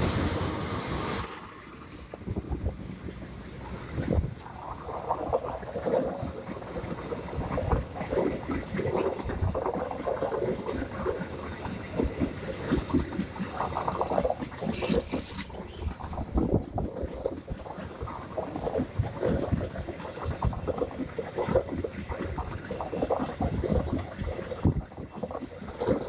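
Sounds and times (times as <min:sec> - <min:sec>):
train rumbling: 0:00.0 - 0:26.0
wheels clattering over rails: 0:00.0 - 0:26.0.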